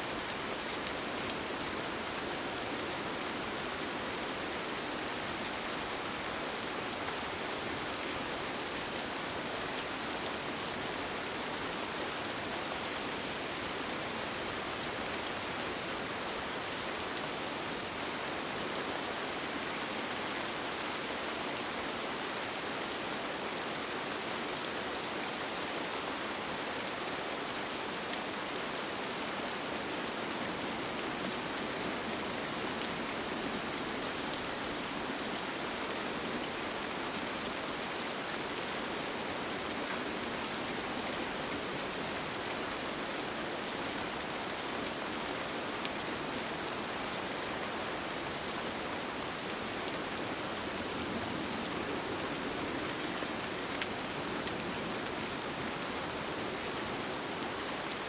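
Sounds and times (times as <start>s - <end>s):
rain falling on a tent: 0.0s - 58.0s.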